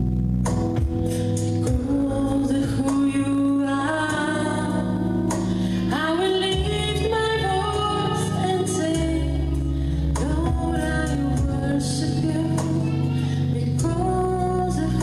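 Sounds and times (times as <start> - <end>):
woman singing into a microphone: 1.1 - 15.0.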